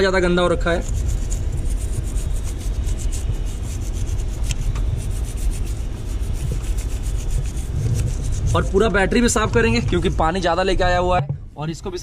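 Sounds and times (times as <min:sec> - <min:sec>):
low steady rumble: 0:00.0 - 0:12.0
toothbrush scrubbing metal: 0:00.6 - 0:10.7.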